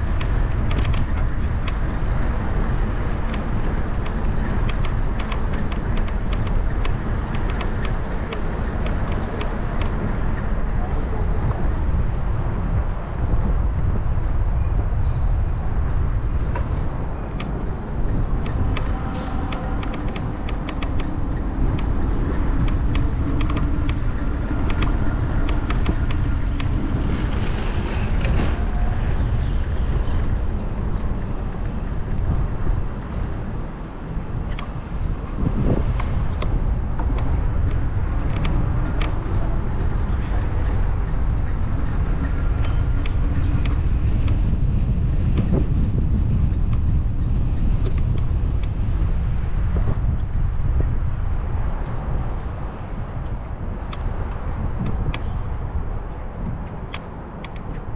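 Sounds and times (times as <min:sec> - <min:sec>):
bicycle tyres rumbling on paving: 0:00.0 - 0:57.9
bike clicks and rattles: 0:00.0 - 0:57.9
wind on microphone: 0:00.0 - 0:57.9.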